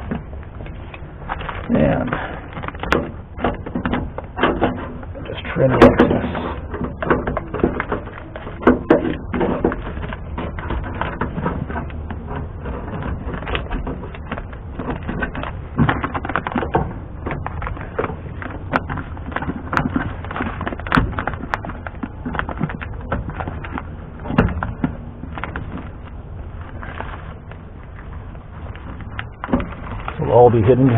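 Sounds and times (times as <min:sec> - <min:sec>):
plastic sheet rustling: 0:00.0 - 0:30.9.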